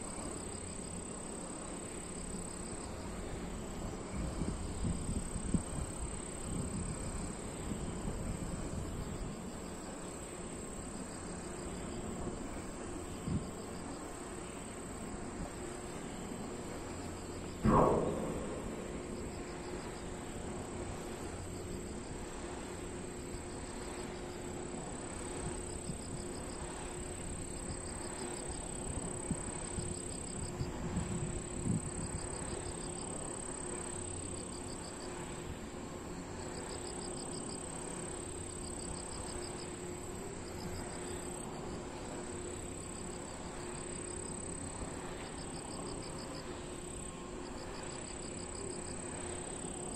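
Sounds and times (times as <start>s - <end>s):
wind turbines humming: 0.0s - 49.9s
insect pulsed chirp: 0.1s - 49.9s.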